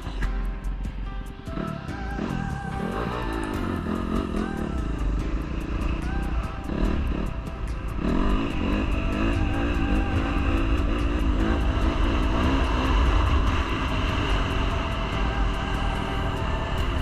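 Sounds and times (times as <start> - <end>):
dirt bike engine revving: 1.5 - 17.0.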